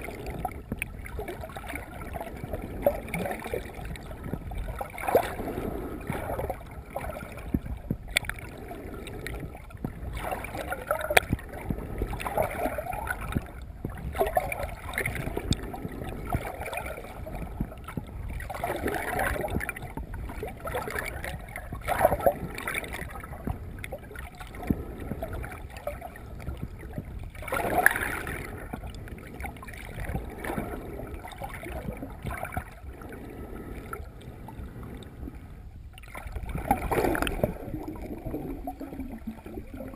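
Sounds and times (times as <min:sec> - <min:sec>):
water gurgling and sloshing: 0:00.0 - 0:39.9.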